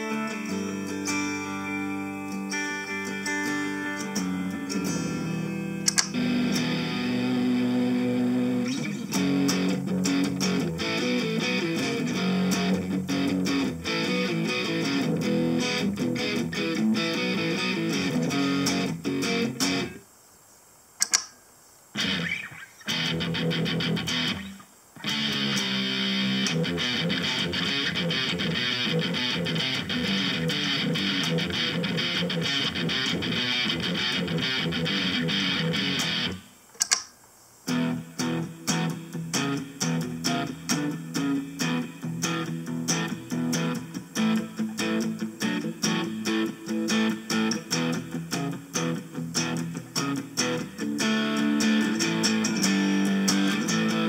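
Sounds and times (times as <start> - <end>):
choppy picked guitar notes: 0.0 - 20.0, 22.0 - 36.4, 37.7 - 54.0
strummed electric guitar chords: 0.0 - 20.0, 22.0 - 36.4, 37.7 - 54.0.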